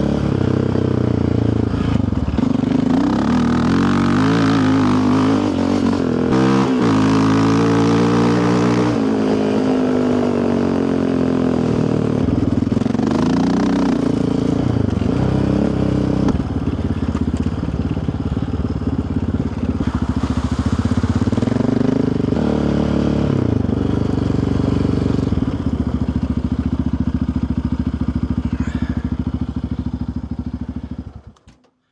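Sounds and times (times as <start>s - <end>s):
quad bike engine revving: 0.0s - 31.6s.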